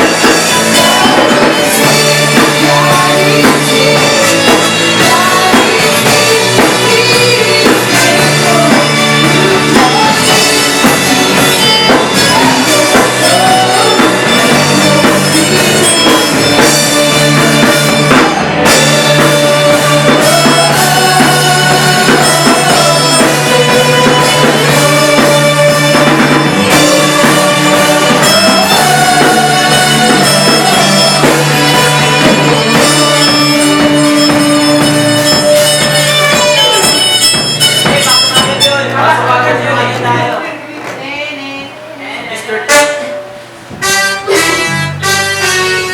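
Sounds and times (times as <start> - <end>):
band playing: 0.0 - 45.9.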